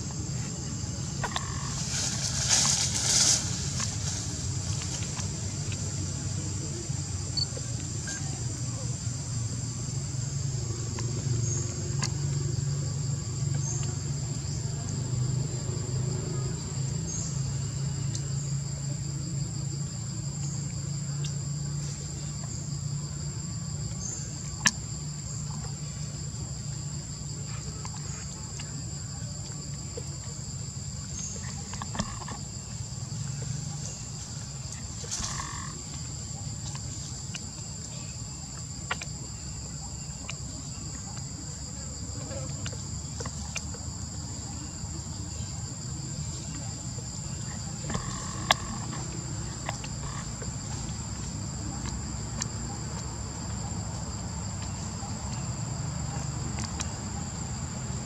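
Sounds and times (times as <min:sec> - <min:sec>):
insect chorus droning: 0:00.0 - 0:58.0.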